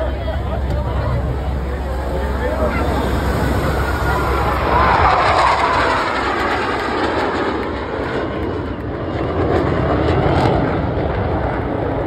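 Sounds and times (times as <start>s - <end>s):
jet engine flying past: 0.0s - 12.0s.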